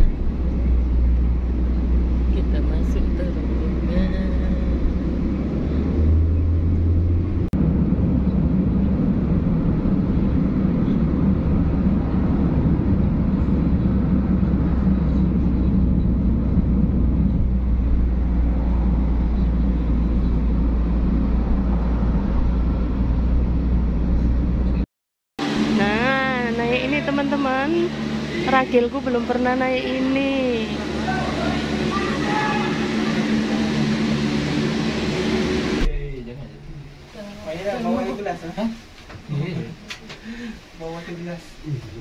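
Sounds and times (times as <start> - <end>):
car road noise: 0.0 - 24.8, 25.4 - 42.0.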